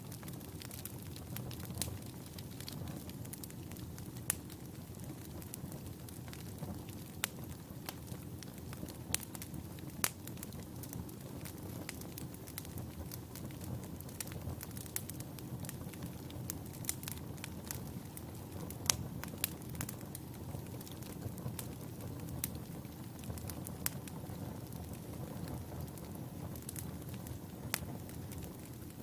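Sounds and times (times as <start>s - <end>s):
flames rushing: 0.0s - 29.0s
logs crackling and popping: 0.0s - 29.0s.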